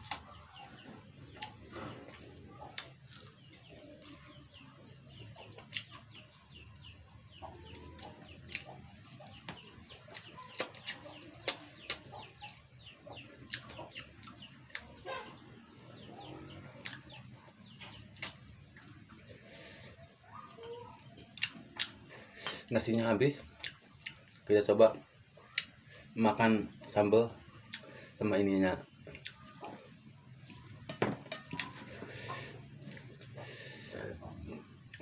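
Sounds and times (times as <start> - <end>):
chickens calling: 0.0 - 24.3, 26.9 - 35.0
birds chirping: 0.0 - 35.0.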